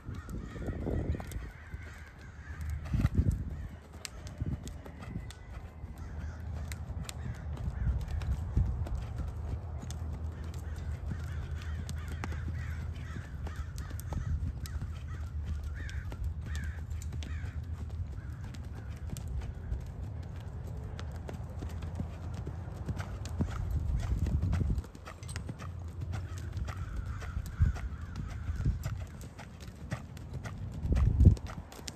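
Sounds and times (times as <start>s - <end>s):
birds calling: 0.0s - 31.1s
horse hooves on sand: 0.0s - 31.9s.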